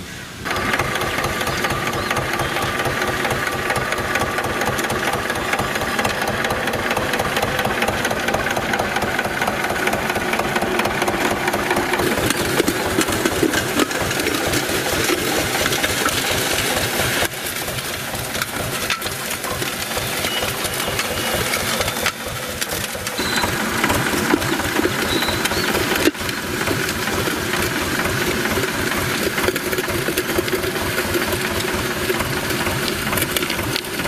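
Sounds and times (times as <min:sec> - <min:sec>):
tractor diesel engine chugging: 0:00.2 - 0:34.0.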